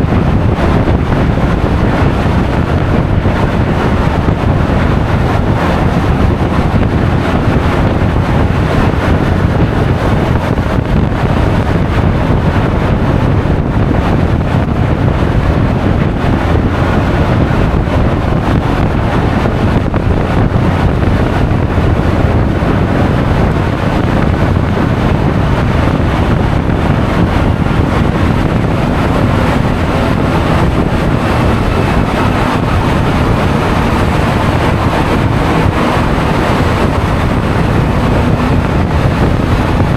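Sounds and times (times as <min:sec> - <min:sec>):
scooter engine: 0:00.0 - 0:11.6, 0:16.4 - 0:39.9
road noise: 0:00.0 - 0:39.9
wind rushing over microphone: 0:00.0 - 0:39.9.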